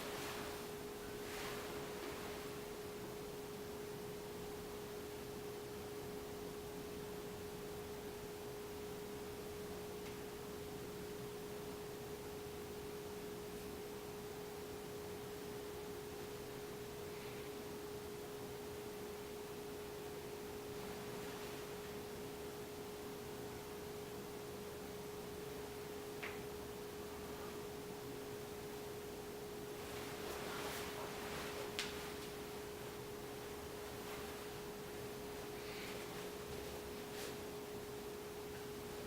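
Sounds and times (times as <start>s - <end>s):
faint room hiss: 0.0s - 39.0s
steady mid-low hum: 0.0s - 39.0s.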